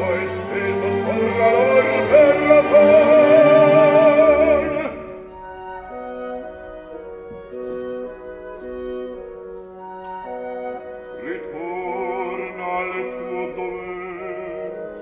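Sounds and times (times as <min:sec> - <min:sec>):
orchestra playing sustained chords: 0:00.0 - 0:15.0.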